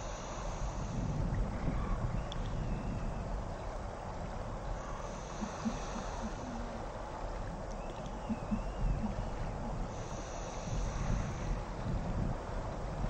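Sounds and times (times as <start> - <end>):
low engine rumble: 0.0 - 13.0
wind noise: 0.0 - 13.0.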